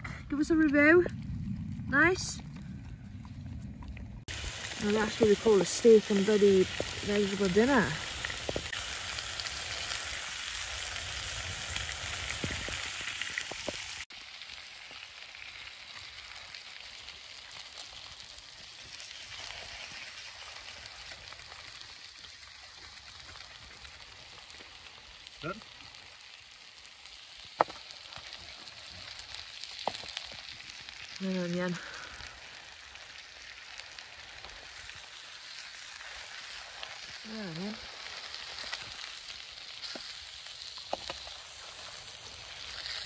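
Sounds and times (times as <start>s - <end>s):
food sizzling in a frying pan: 4.2s - 43.0s.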